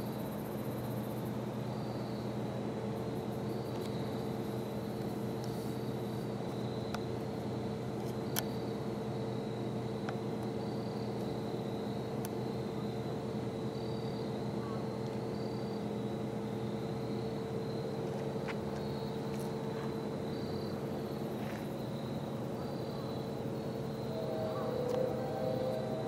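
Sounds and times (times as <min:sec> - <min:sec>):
insects trilling: 0:00.0 - 0:26.0
steady low hum: 0:00.0 - 0:26.0.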